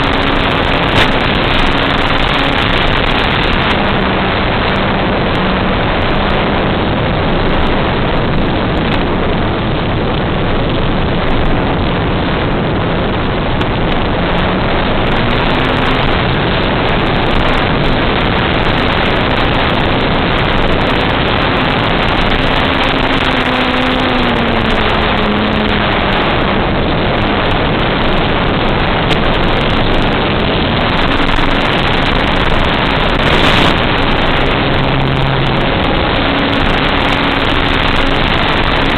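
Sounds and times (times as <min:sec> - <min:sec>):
propeller motor and wind rush: 0:00.0 - 0:38.9.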